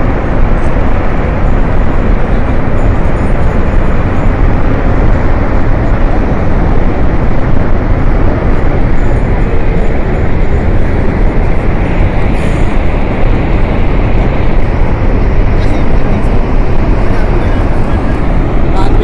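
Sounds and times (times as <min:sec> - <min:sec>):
flood water roaring: 0:00.0 - 0:19.0.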